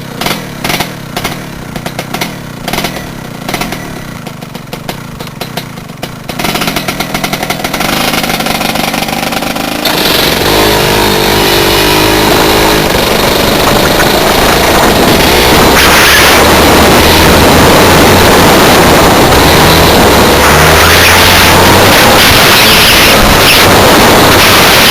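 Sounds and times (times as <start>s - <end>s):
kart engine accelerating: 0.0s - 24.9s.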